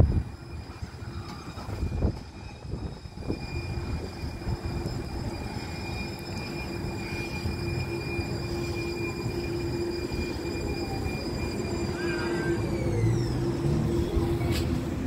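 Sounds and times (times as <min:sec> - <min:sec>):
rumble of wheels on rail: 0:00.0 - 0:15.0.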